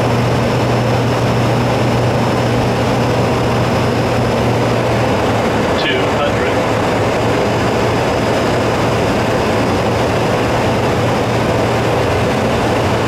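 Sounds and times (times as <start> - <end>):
airflow rushing: 0.0 - 13.0
low engine hum: 0.0 - 13.0.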